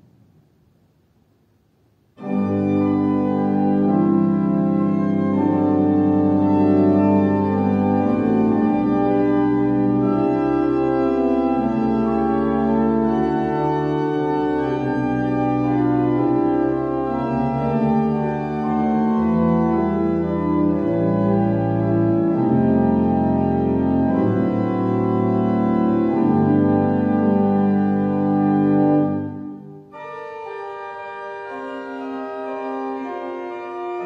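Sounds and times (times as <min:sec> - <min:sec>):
deep organ pedal bass notes: 0:02.2 - 0:34.0
organ playing chords: 0:02.2 - 0:34.0.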